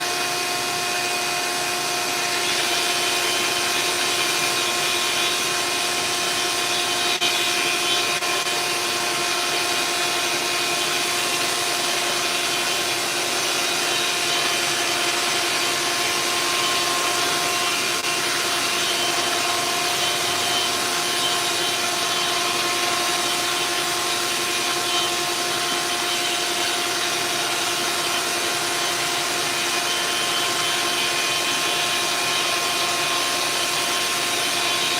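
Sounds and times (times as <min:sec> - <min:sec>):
power sander running: 0:00.0 - 0:34.9.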